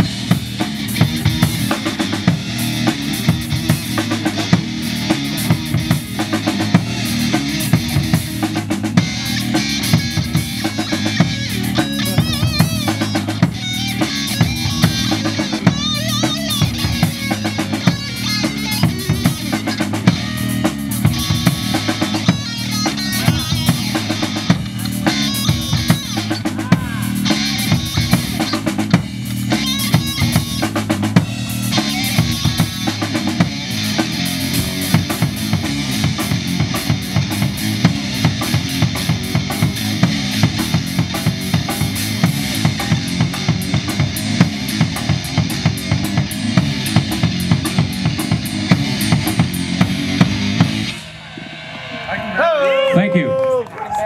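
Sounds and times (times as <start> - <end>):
electric bass: 0.0 - 53.2
drum kit steady beat: 0.0 - 53.8
electric guitar: 0.0 - 54.0.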